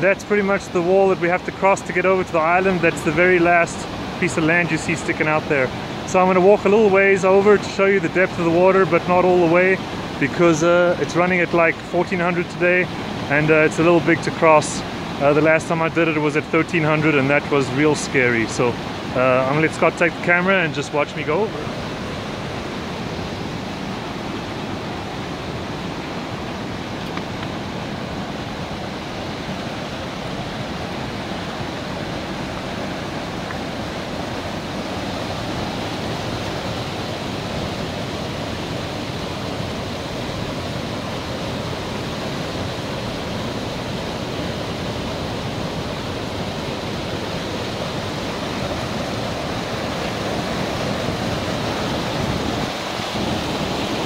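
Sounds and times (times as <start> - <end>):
water rushing over dam wall: 0.0 - 54.0.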